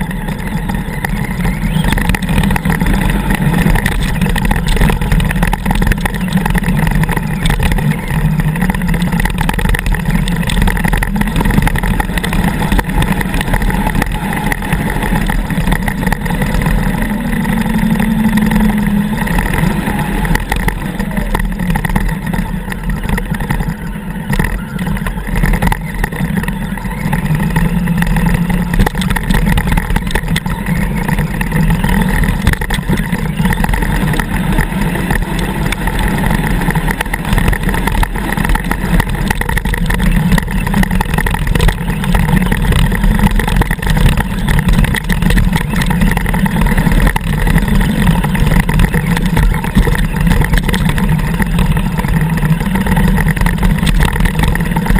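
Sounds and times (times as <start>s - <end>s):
electric motor and gears running: 0.0s - 54.9s
small knocks and rattles: 0.0s - 54.9s.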